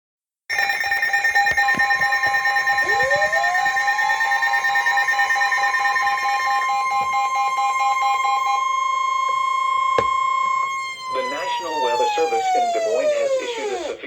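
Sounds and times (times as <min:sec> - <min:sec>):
steady high alarm tone: 0:00.5 - 0:14.0.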